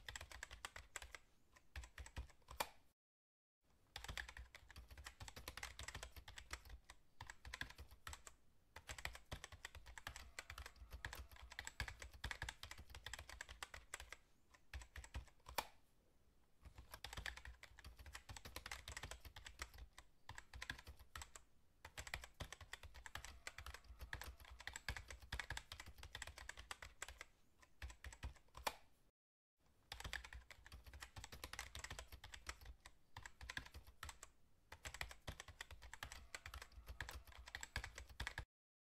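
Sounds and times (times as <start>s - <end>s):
keyboard typing clicks: 1.8s - 2.8s, 4.0s - 15.8s, 16.6s - 28.9s, 29.9s - 38.5s.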